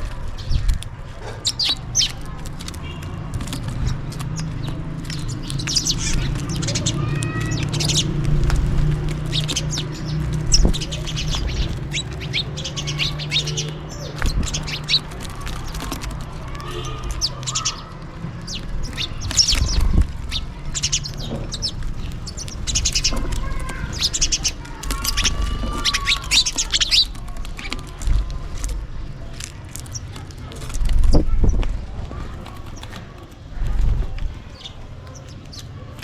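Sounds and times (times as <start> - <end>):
sparrows chirping: 0.0 - 36.0.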